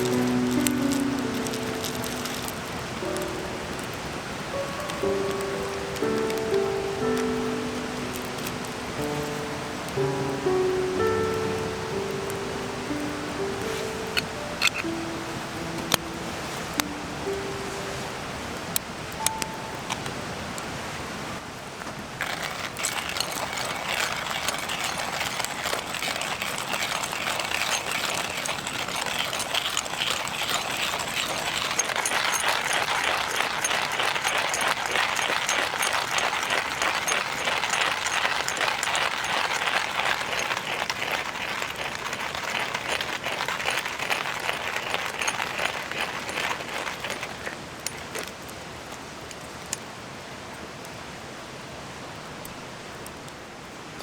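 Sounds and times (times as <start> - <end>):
coffee grinder crunching beans: 0.0 - 17.6, 19.2 - 20.0, 22.2 - 48.5
stream water rushing: 0.0 - 54.0.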